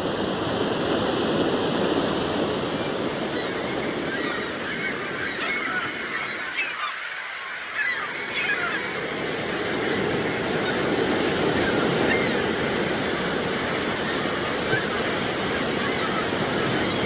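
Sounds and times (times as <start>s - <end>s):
surf washing: 0.0s - 17.0s
gulls calling: 2.8s - 17.0s.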